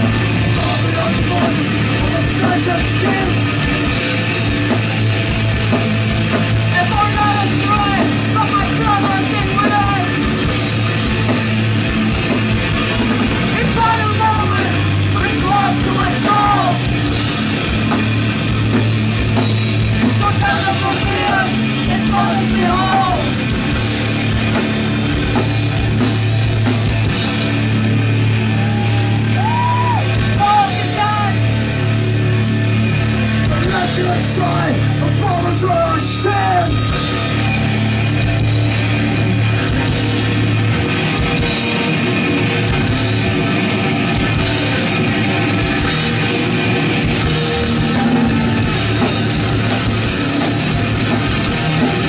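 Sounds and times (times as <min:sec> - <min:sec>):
heavy metal band playing: 0:00.0 - 0:52.0.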